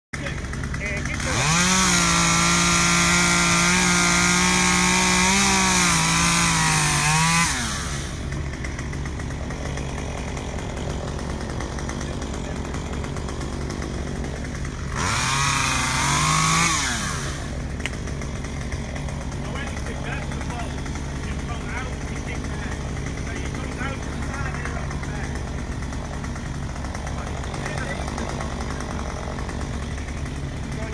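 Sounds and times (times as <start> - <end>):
chainsaw cutting branches: 0.2 - 30.9.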